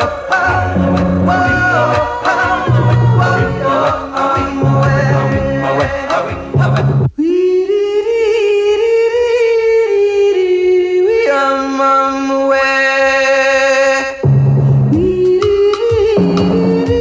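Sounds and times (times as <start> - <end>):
close-harmony vocal chant with bass: 0.0 - 17.0.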